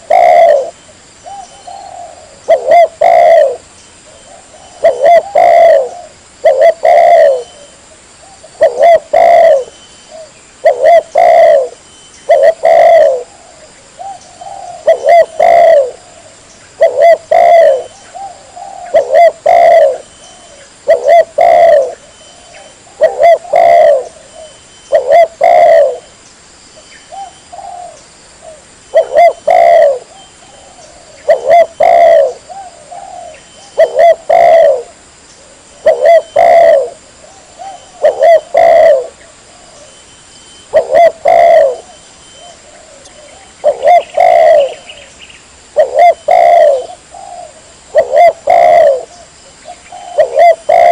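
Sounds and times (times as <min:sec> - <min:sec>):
dove cooing: 0:00.0 - 0:26.1, 0:27.1 - 0:45.1, 0:45.7 - 0:50.9.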